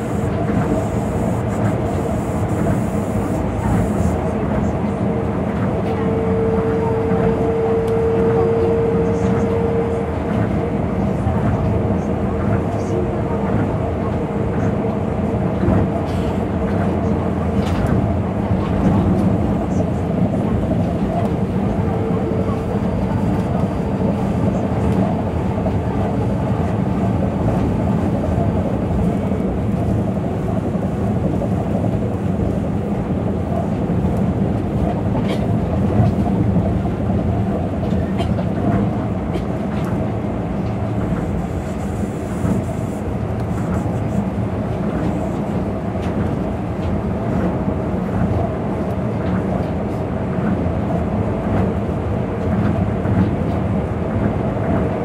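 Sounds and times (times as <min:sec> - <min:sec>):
monorail tyres rumbling on guideway: 0:00.0 - 0:55.0.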